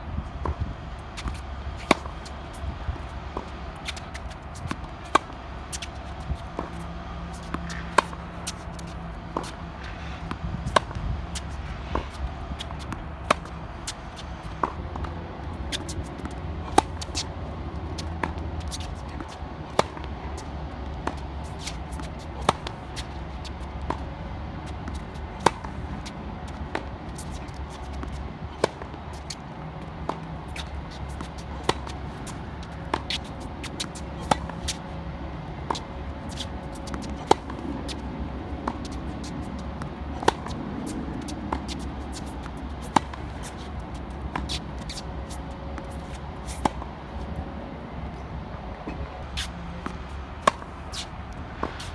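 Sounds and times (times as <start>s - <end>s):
tennis ball bouncing: 1.2s - 51.9s
racquet hitting tennis ball: 3.2s - 24.1s, 24.7s - 46.9s, 48.9s - 51.9s.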